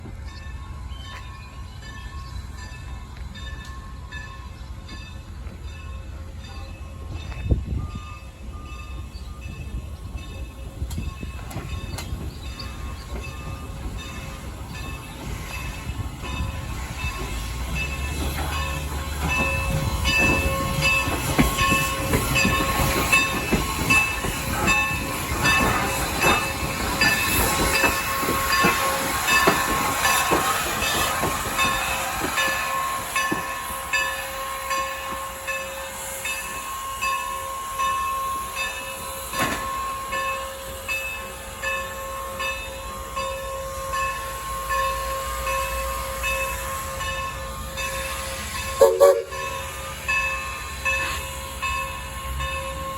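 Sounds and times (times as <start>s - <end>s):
hissing steam: 9.7s - 52.9s.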